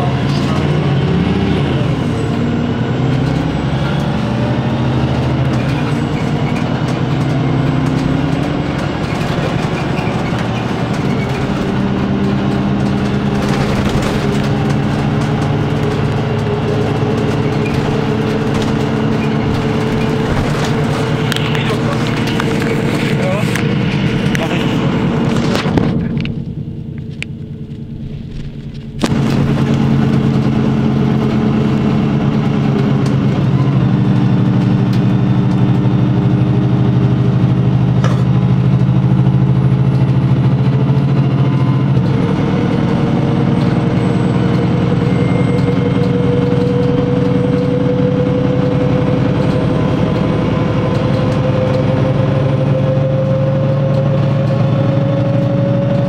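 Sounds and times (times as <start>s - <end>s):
bus engine running: 0.0s - 56.0s
engine whine rising in pitch: 0.0s - 56.0s.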